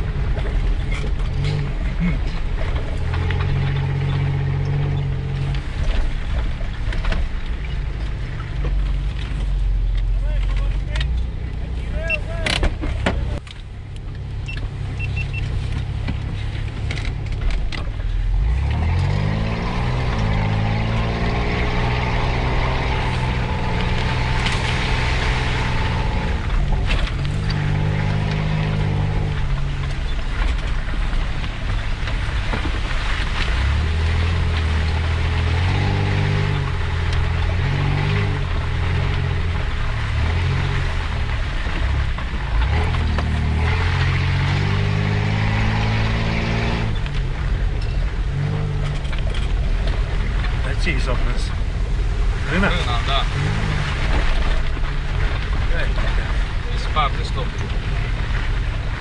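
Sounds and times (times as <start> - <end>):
off-road vehicle engine: 0.0 - 59.0
rumble of tyres and body: 0.0 - 59.0.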